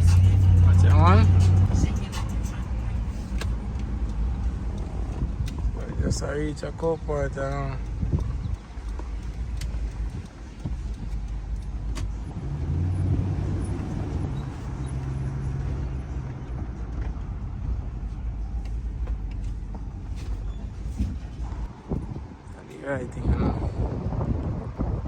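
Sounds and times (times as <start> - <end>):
van engine humming: 0.0 - 22.7
road noise: 0.0 - 25.0.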